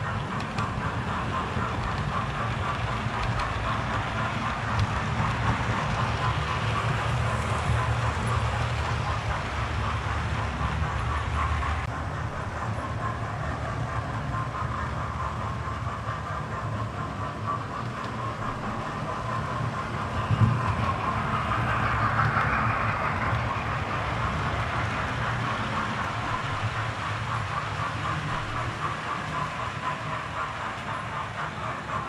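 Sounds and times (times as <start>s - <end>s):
model train wheels rumbling on rails: 0.0s - 32.0s.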